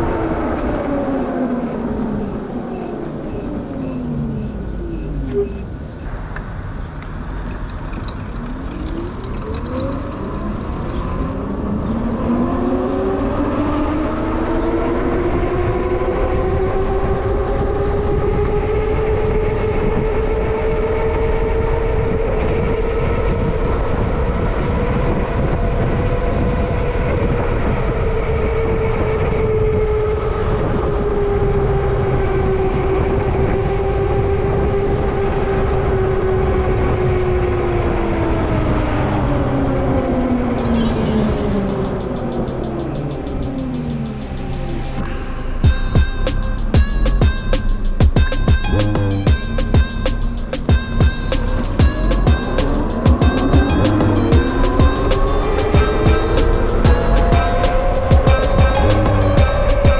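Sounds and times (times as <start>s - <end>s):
wind and road noise: 0.0s - 59.9s.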